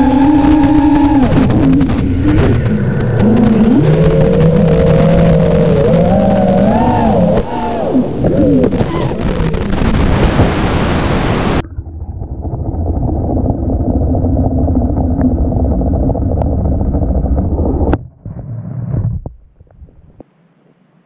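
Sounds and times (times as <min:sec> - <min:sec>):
muffled underwater rumble: 0:00.0 - 0:10.6, 0:11.4 - 0:20.2.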